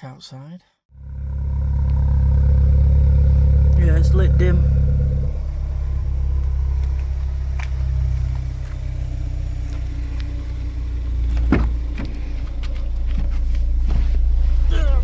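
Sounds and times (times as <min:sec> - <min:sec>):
car engine idling: 0:00.9 - 0:15.0.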